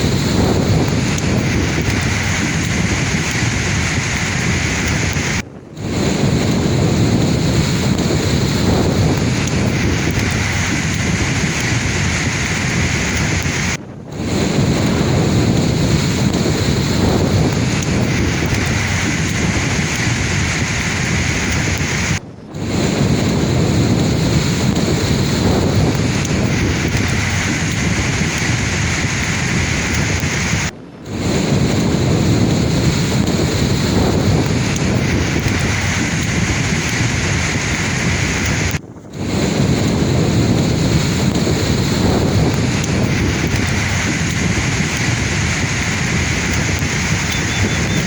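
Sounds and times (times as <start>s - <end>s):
sea waves breaking on shore: 0.0s - 48.0s.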